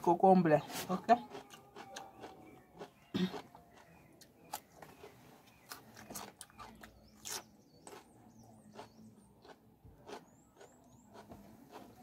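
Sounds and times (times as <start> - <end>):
chewing crisp cucumber: 1.1 - 12.0.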